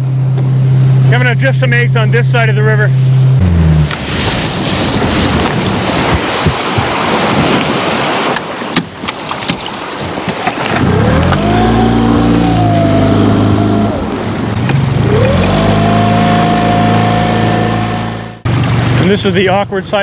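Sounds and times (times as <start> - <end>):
outboard motor revving: 0.0 - 8.4, 10.1 - 19.5.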